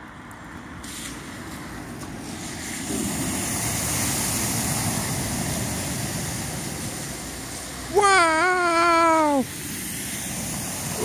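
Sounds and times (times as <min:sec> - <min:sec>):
car splashing through floodwater: 0:00.0 - 0:11.0.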